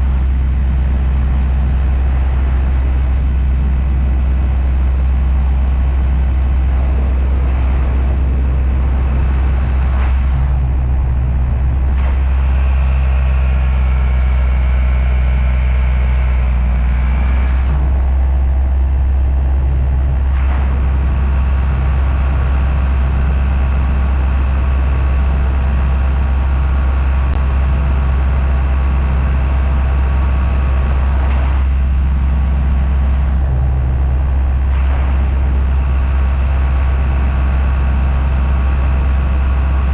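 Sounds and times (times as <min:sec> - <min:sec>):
paramotor engine drone: 0:00.0 - 0:39.9.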